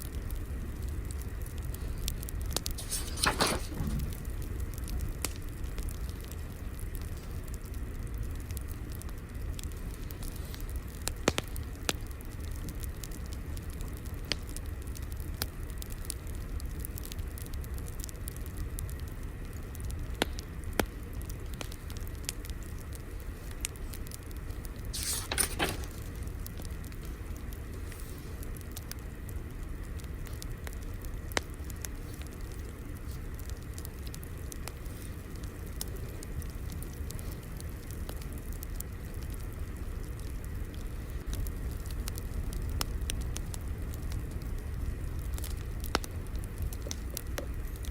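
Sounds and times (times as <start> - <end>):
fire crackling: 0.0 - 47.9
fire hiss: 0.0 - 47.9.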